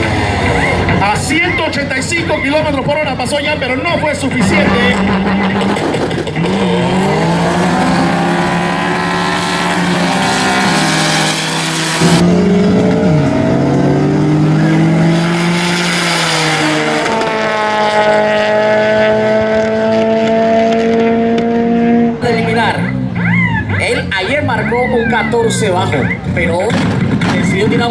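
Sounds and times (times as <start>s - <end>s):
race car engines accelerating: 0.0s - 27.9s.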